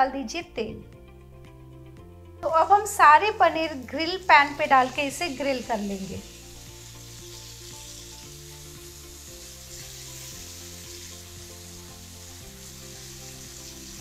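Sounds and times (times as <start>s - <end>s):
background music: 0.0s - 14.0s
paneer sizzling in frying pan: 2.6s - 14.0s.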